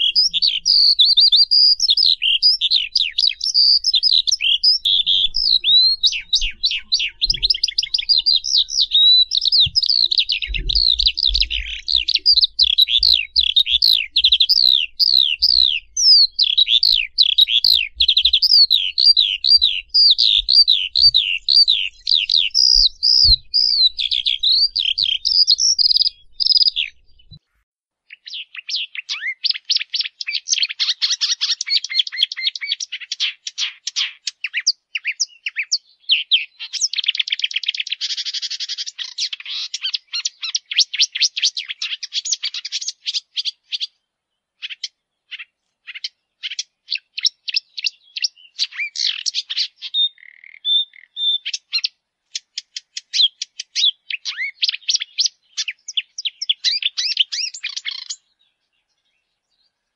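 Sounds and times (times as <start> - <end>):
birds chirping high-pitched: 0.0 - 27.5, 28.1 - 59.9.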